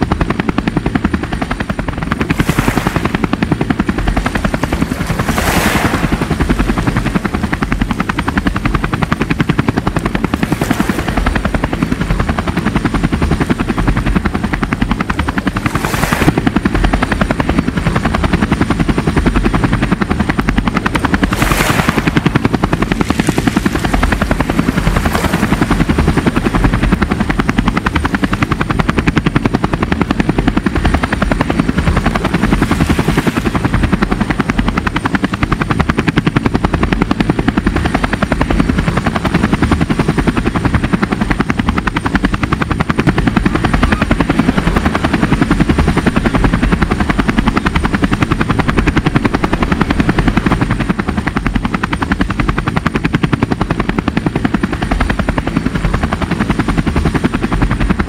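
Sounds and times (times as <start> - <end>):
boat engine throbbing: 0.0 - 36.2, 40.3 - 53.1.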